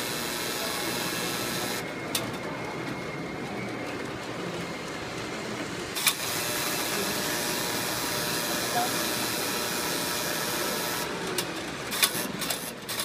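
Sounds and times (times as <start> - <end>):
model trains whirring on track: 0.0 - 13.0.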